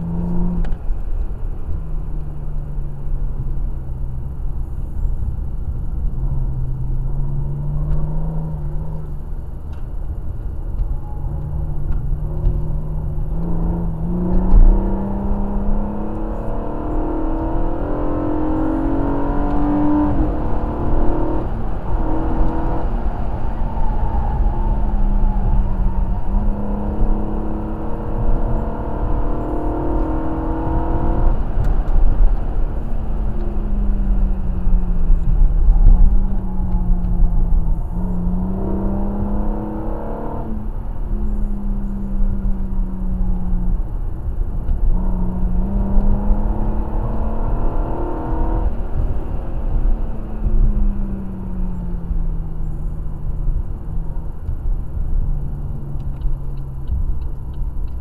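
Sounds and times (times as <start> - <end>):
car engine revving: 0.0 - 58.0
low road rumble: 0.0 - 58.0.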